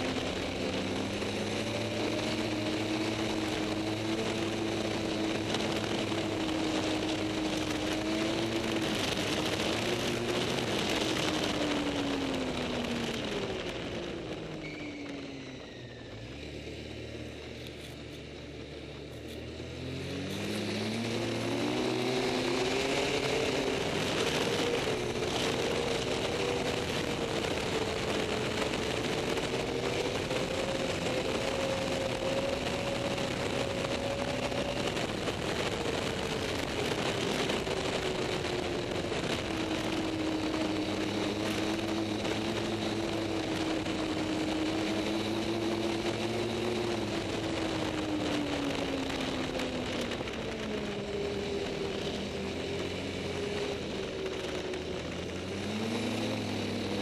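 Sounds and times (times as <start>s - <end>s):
snowmobile engine: 0.0s - 57.0s.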